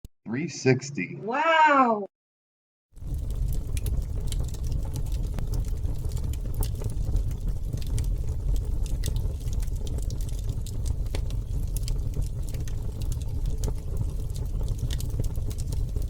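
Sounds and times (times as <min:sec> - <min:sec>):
campfire crackling and popping: 0:03.0 - 0:16.0.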